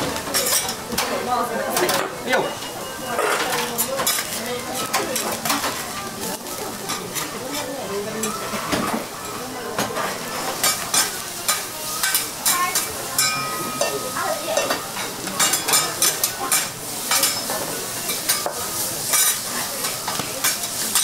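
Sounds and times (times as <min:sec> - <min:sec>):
food sizzling on griddle: 0:00.0 - 0:21.0.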